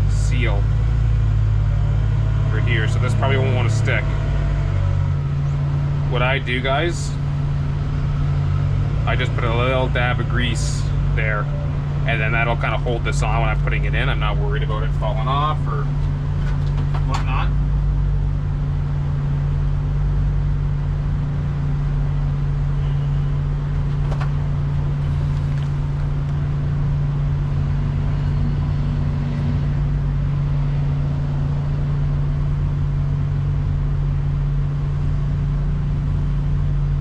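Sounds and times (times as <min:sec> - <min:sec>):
low engine drone: 0:00.0 - 0:37.0.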